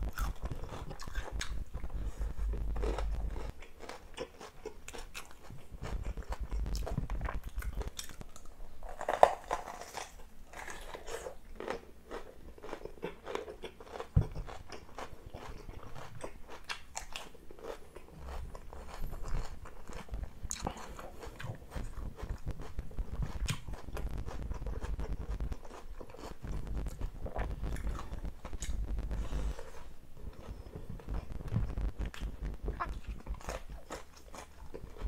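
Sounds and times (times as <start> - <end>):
chewing rice: 0.0 - 35.0
crunchy chewing: 0.0 - 35.0.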